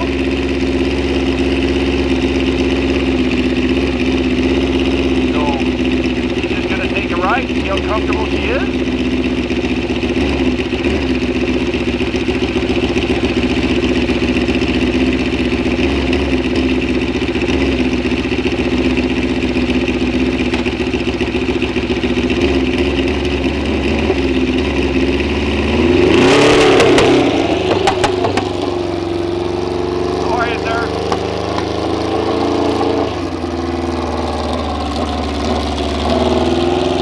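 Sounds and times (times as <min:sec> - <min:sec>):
engine idling and revving: 0:00.0 - 0:37.0.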